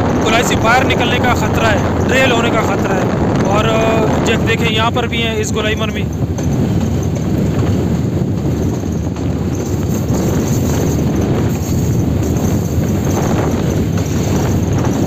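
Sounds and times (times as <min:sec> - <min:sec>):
diesel locomotive running: 0:00.0 - 0:15.0
wheels clattering on rails: 0:00.0 - 0:15.0.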